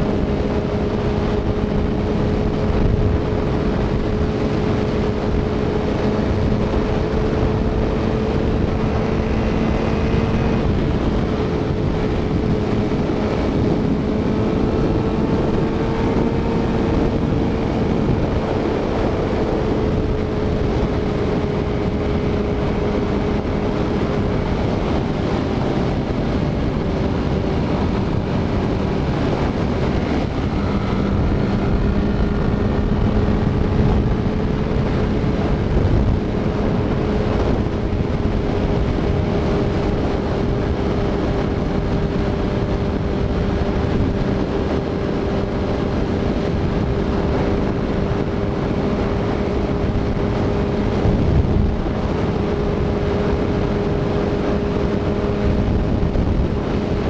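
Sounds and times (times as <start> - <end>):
motorcycle engine drone: 0.0 - 57.0.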